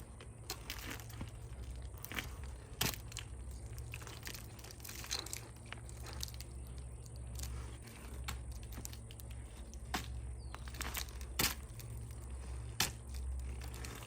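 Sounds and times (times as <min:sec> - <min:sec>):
climbing spurs crunching tree bark: 0:00.0 - 0:14.0
low steady rumble: 0:00.0 - 0:14.0.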